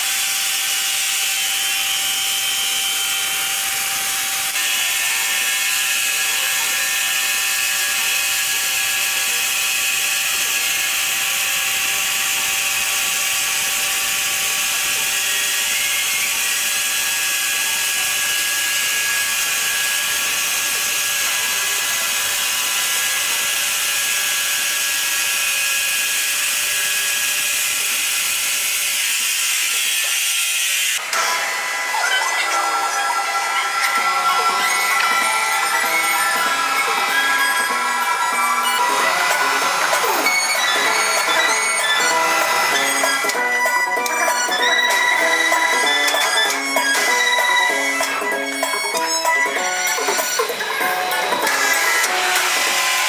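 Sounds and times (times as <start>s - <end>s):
saw cutting timber: 0.0s - 53.0s.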